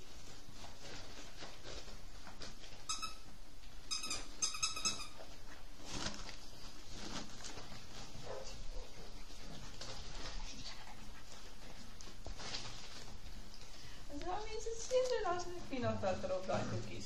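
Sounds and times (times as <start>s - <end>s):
puppies scuffling: 0.0s - 17.0s.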